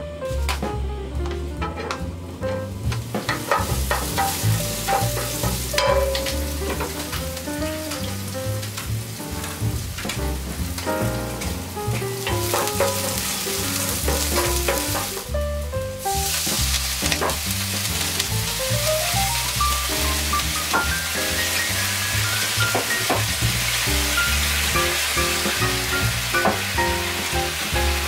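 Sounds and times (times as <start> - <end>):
wooden spatula stirring in pan: 1.7 - 15.4, 16.0 - 28.0
food sizzling in hot oil: 1.7 - 28.0.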